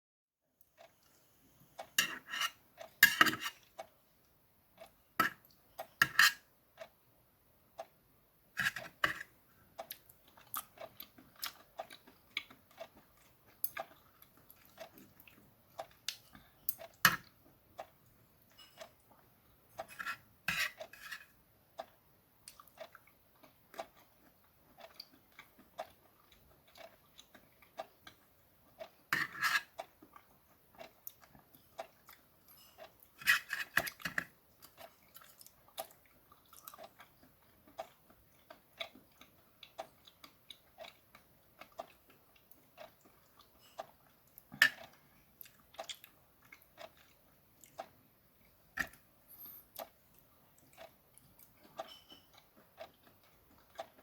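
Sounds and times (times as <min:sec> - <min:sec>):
person chewing wetly: 0:08.6 - 0:54.0.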